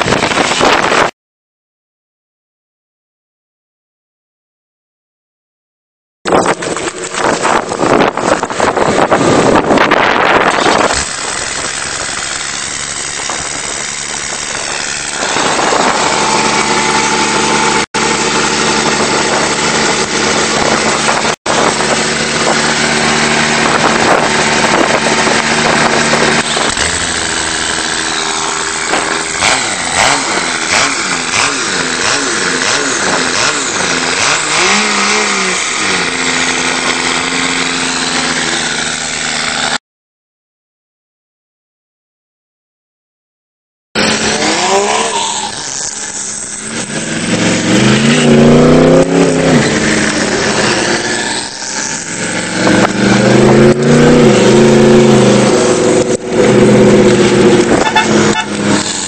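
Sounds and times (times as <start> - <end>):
diesel engine idling and revving: 6.3 - 39.8, 44.0 - 59.0
loud rush of noise: 6.3 - 39.8, 44.0 - 59.0.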